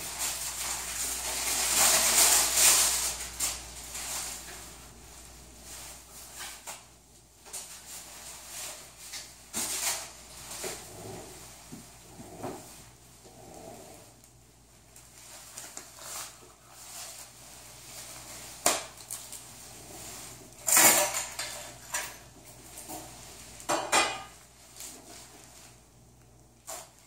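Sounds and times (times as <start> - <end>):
supplies rustling: 0.0 - 27.0.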